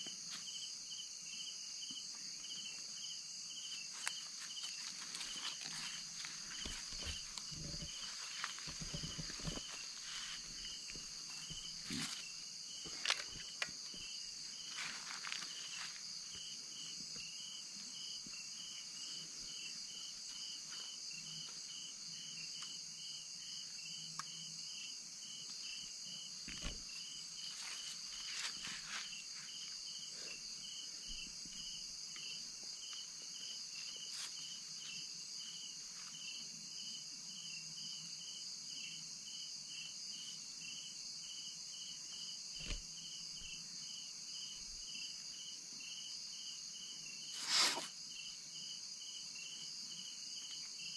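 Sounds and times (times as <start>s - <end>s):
crickets trilling: 0.0s - 50.9s
pulsing insect chirp: 0.0s - 50.9s.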